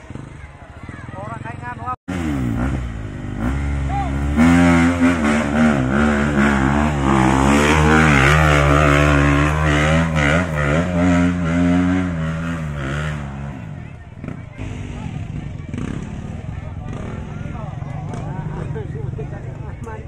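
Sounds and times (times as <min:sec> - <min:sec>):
motorcycle engine revving hard: 0:00.0 - 0:18.9.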